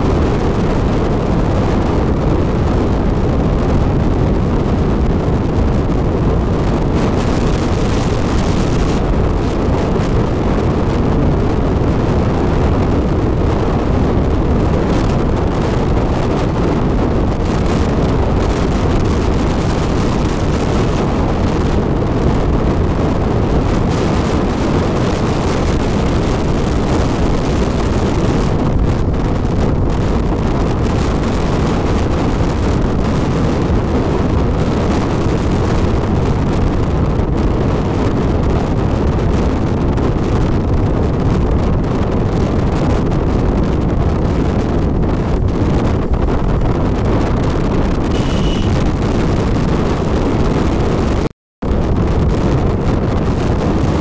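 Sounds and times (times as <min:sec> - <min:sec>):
motorcycle road noise: 0:00.0 - 0:54.0
wind rush on microphone: 0:00.0 - 0:54.0.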